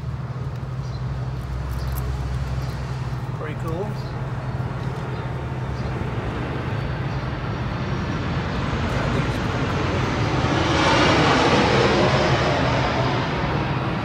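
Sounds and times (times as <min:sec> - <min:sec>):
vehicle passing: 0:01.1 - 0:14.0.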